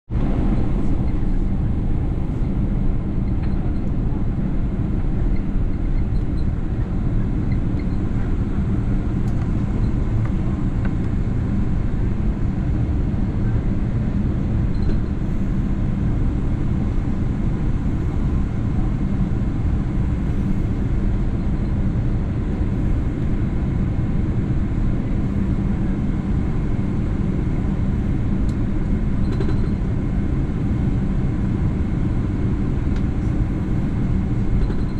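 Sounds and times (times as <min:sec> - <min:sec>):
airliner cabin rumble: 0:00.1 - 0:34.9.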